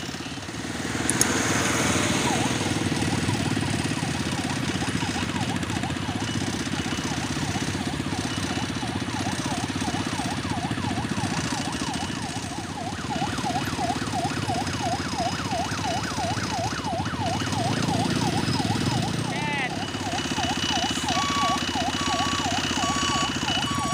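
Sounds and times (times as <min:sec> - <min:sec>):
siren yelping: 0:00.0 - 0:23.9
vehicle engines rumbling: 0:00.0 - 0:23.9.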